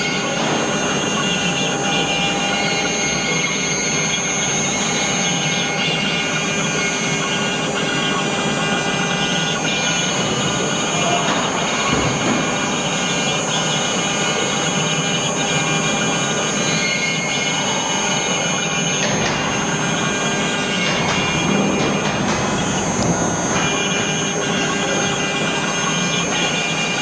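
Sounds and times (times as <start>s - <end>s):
cnc router whining: 0.0s - 27.0s.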